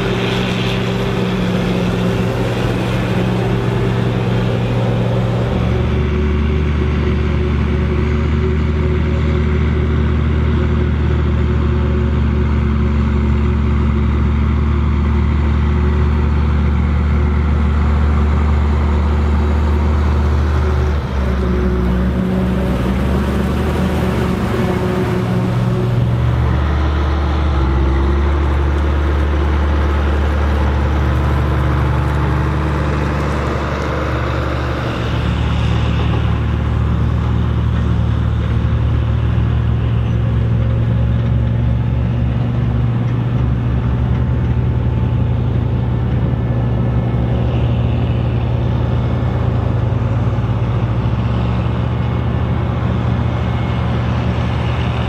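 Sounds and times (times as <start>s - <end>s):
diesel engines droning under load: 0.0s - 55.0s.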